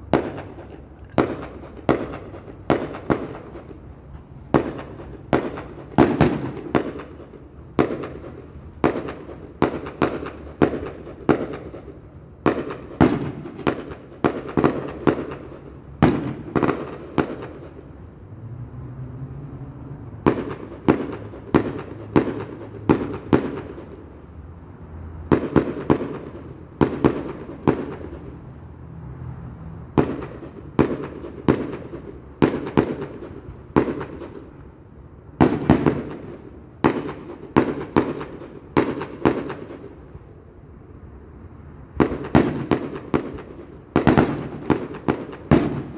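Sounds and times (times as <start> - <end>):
fireworks bangs with echo: 0.0 - 18.0, 20.2 - 24.0, 25.2 - 28.3, 29.9 - 34.6, 35.4 - 40.2, 41.9 - 45.9.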